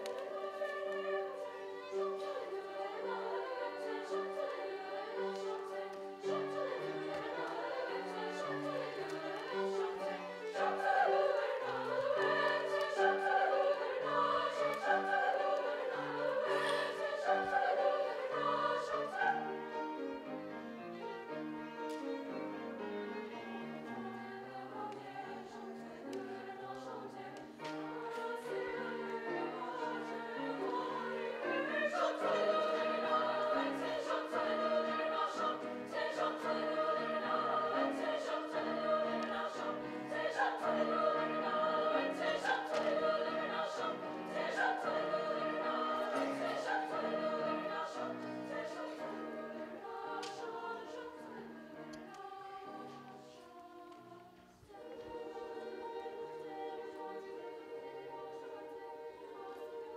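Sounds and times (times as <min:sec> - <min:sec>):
women's choir singing: 0:00.0 - 0:59.9.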